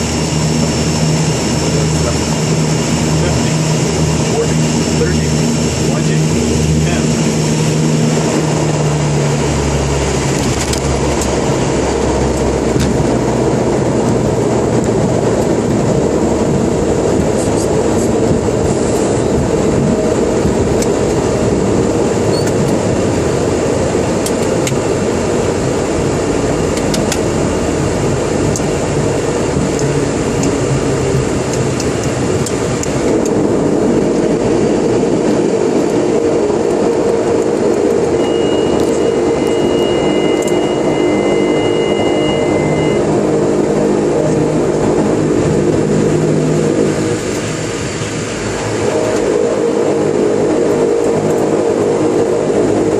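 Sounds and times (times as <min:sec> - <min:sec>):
low drone: 0:00.0 - 0:52.9
turboprop engine and propeller noise: 0:00.0 - 0:52.9
wheels rumbling on runway: 0:00.0 - 0:52.9.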